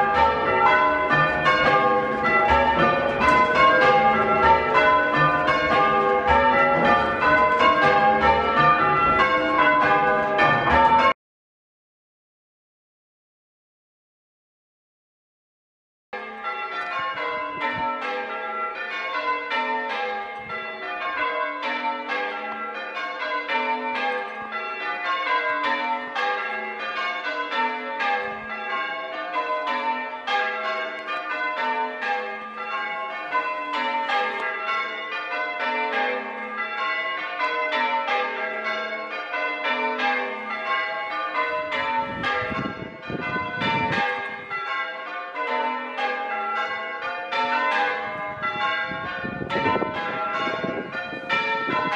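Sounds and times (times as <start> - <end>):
church bells ringing changes: 0.0 - 11.2, 16.2 - 51.9.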